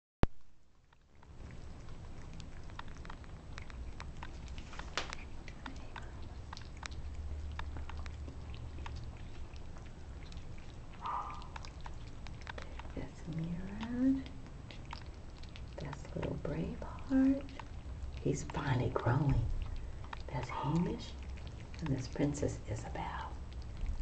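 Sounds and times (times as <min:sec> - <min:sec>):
low steady hum: 0:00.2 - 0:24.0
cats lapping and chewing: 0:00.7 - 0:24.0.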